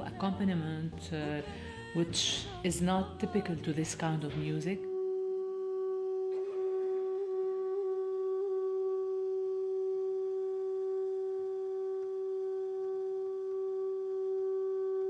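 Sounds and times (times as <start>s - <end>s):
clarinet long note: 1.0s - 15.0s.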